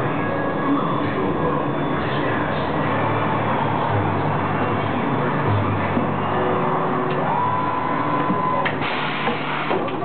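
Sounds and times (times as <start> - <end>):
workshop background din: 0.0 - 10.0.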